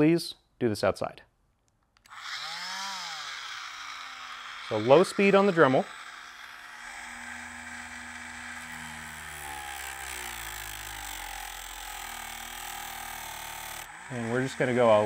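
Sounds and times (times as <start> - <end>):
rotary tool running: 2.0 - 15.0.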